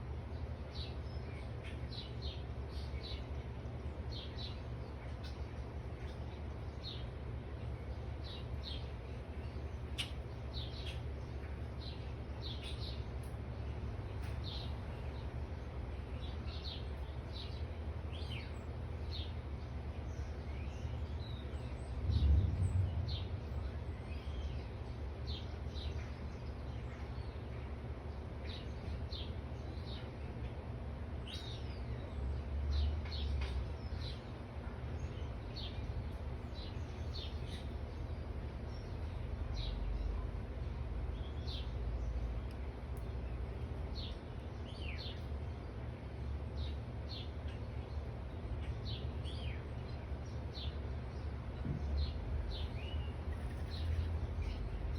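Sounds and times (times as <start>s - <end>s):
birds chirping: 0.0s - 54.9s
steady low rumble: 0.0s - 54.9s.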